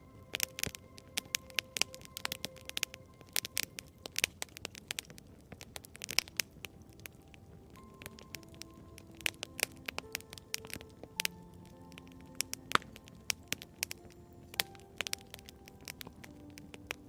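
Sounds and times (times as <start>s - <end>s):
music: 0.0s - 17.0s
wood fire crackling and popping: 0.0s - 17.0s.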